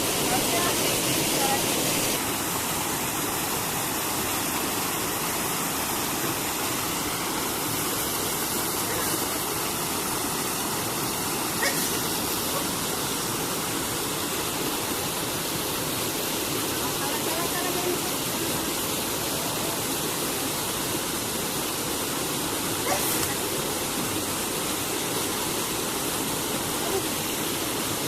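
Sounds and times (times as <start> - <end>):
rushing waterfall: 0.0 - 28.0.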